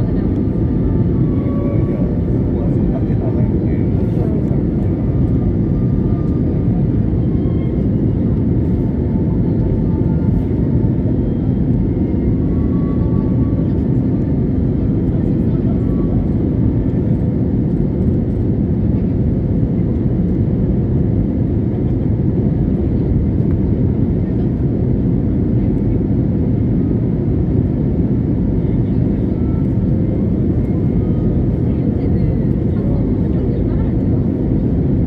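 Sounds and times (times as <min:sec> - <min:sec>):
jet airliner cabin noise: 0:00.0 - 0:35.0.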